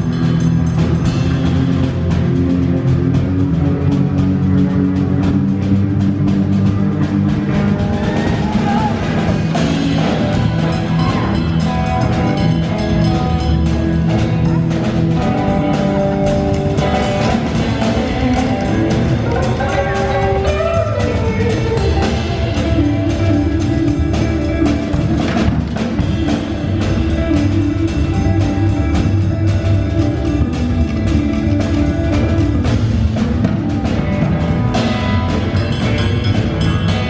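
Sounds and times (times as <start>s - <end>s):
bass guitar: 0.0s - 37.0s
drum kit beat: 0.0s - 37.0s
electric guitar: 0.0s - 37.0s.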